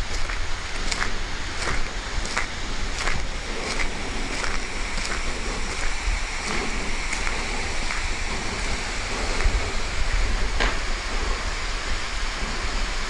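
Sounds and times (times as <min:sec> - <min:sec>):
footsteps on gravel: 0:00.0 - 0:10.8
flowing water rushing: 0:00.0 - 0:13.0.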